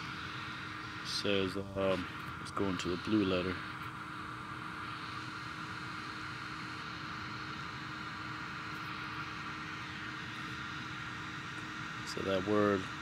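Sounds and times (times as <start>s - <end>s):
faint constant hum: 0.0s - 13.0s
steady hiss: 0.0s - 13.0s.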